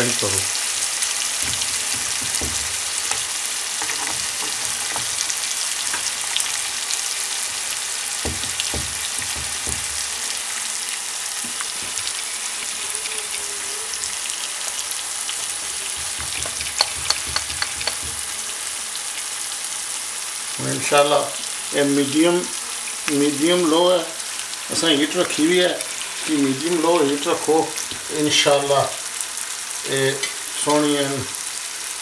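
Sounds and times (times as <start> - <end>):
ribs sizzling in oil: 0.0 - 32.0.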